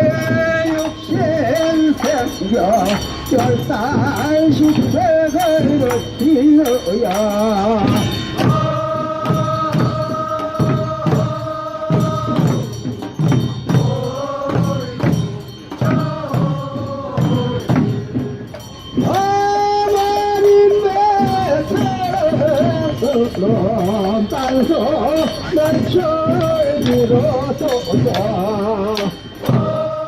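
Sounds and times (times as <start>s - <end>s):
steady percussive beat: 0.0s - 30.0s
voices singing folk song: 0.0s - 30.0s.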